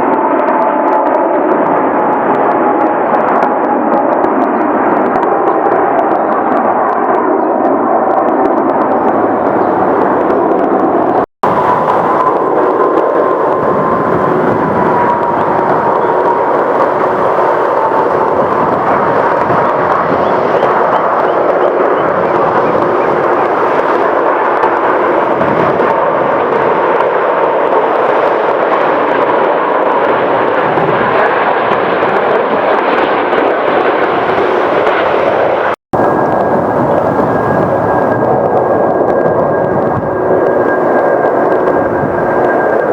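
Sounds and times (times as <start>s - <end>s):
jet airliner engines passing: 0.0s - 42.9s.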